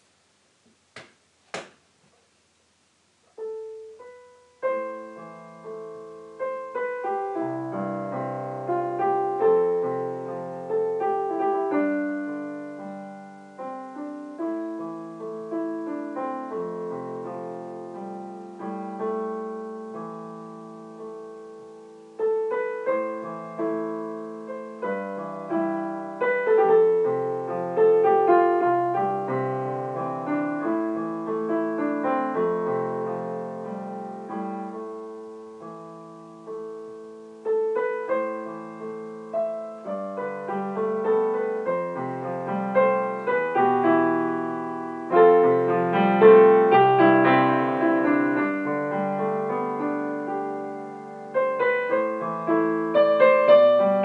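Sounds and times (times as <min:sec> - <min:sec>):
slow solo piano piece: 0:03.2 - 0:54.0.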